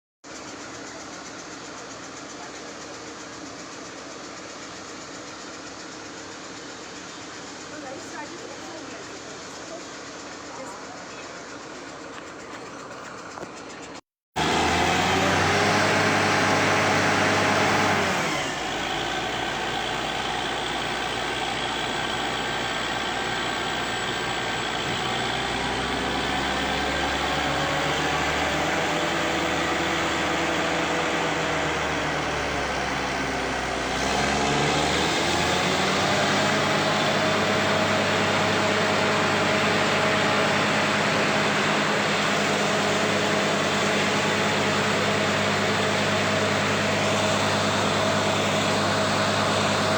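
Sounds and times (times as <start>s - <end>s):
drilling rig engine running: 0.3s - 49.9s.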